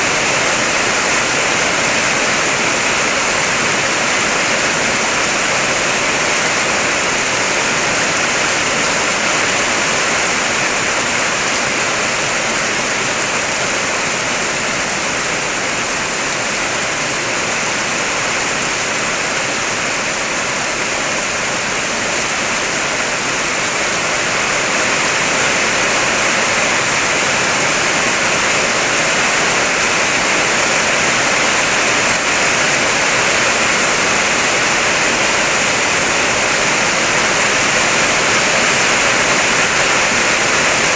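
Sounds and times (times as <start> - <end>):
heavy rain on car roof: 0.0 - 40.9.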